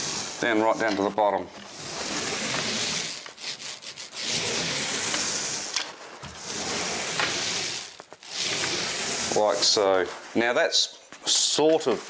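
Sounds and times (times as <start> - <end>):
paint roller rubbing on wall: 0.0 - 12.0.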